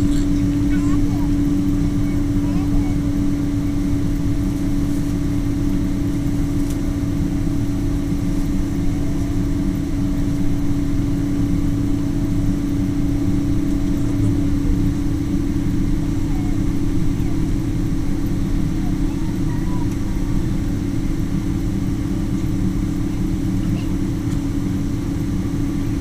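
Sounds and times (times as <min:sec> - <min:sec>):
jet engines droning: 0:00.0 - 0:26.0.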